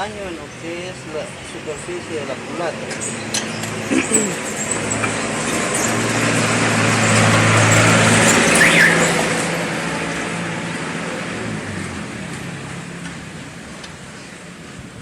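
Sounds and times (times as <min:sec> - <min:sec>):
vehicle passing by: 0:00.0 - 0:13.5.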